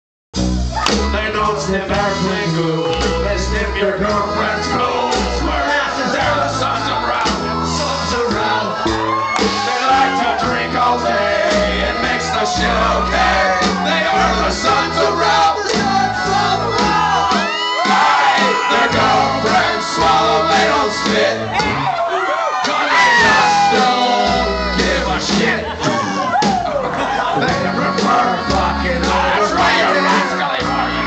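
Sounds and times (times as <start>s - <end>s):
bass line: 0.4s - 22.0s, 22.9s - 31.0s
men singing and shouting: 0.7s - 31.0s.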